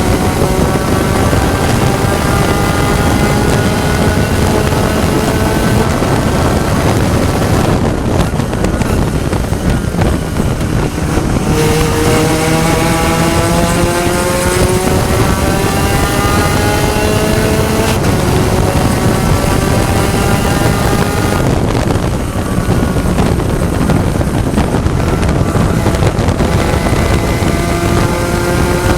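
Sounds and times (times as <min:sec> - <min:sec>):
race car engine revving: 0:00.0 - 0:28.9
wind noise: 0:00.0 - 0:28.9.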